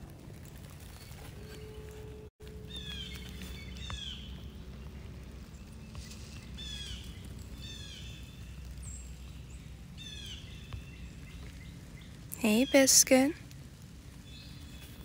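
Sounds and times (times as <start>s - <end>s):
low background noise: 0.0s - 15.0s
songbird singing: 0.9s - 13.5s, 14.1s - 15.0s.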